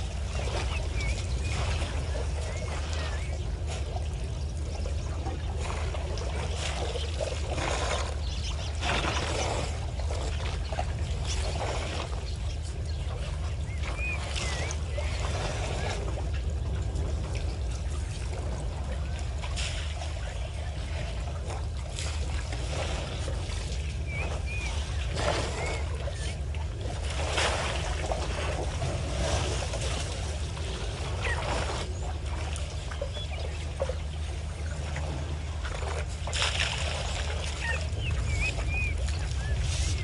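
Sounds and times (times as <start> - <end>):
steady low rumble: 0.0 - 40.0
water splashing and trickling: 0.0 - 40.0.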